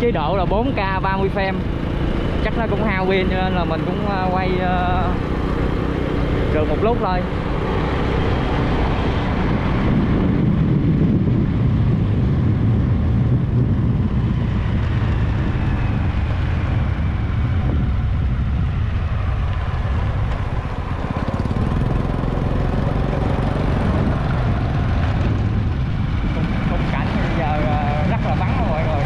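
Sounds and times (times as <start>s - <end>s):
vehicle engine and road noise: 0.0s - 29.0s.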